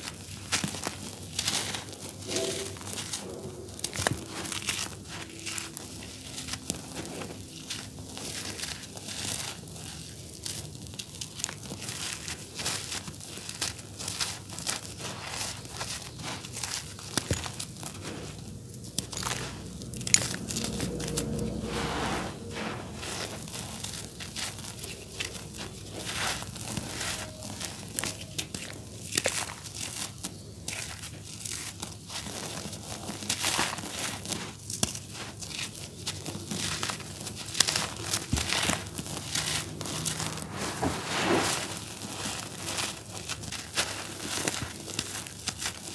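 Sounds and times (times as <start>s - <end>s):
charcoal crushed in hands: 0.0s - 21.7s, 22.4s - 45.9s
crumbs sifting onto grit: 0.0s - 45.9s.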